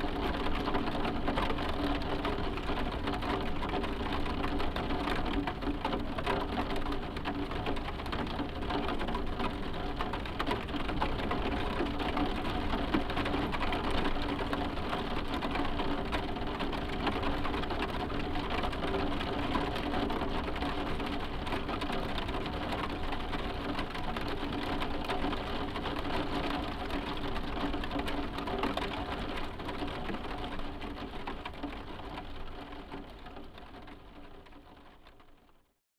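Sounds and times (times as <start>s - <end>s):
rain pattering on a roof: 0.0s - 35.8s.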